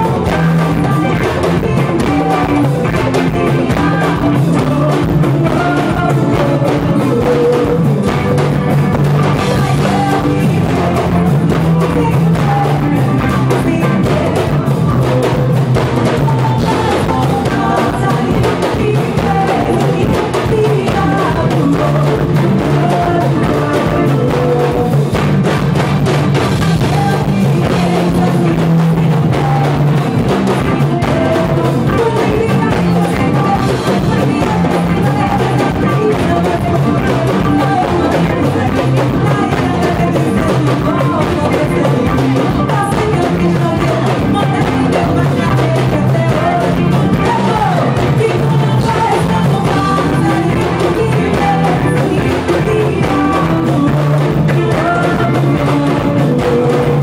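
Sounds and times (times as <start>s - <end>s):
live band music: 0.0s - 57.0s
woman singing: 0.0s - 57.0s.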